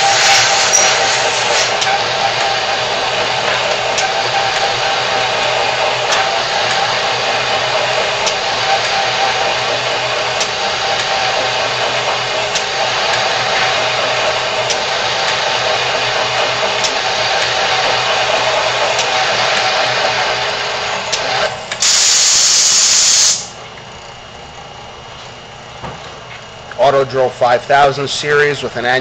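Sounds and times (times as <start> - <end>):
pneumatic drill cutting steel: 0.0 - 23.6.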